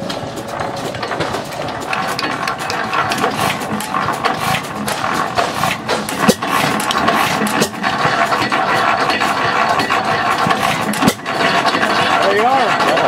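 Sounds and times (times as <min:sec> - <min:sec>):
engine knocking: 0:00.0 - 0:13.0
old gas engine running: 0:00.0 - 0:13.0.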